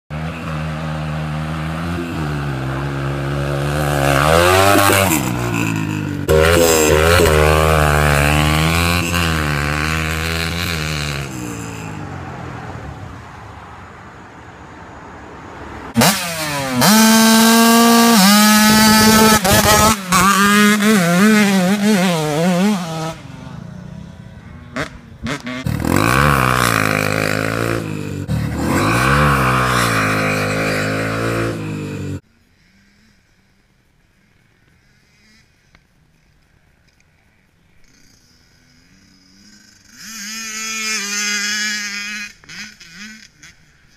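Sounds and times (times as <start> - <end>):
dirt bike engines revving: 0.1 - 14.4, 15.1 - 43.9.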